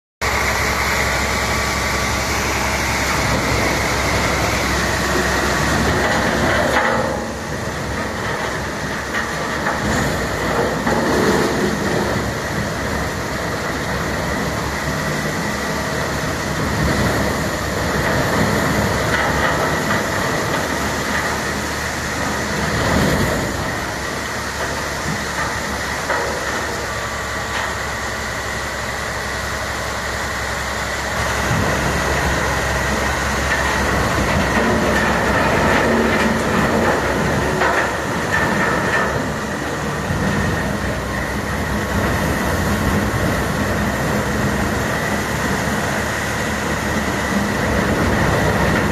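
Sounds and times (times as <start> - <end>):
tub grinder grinding wood: 0.2 - 48.9.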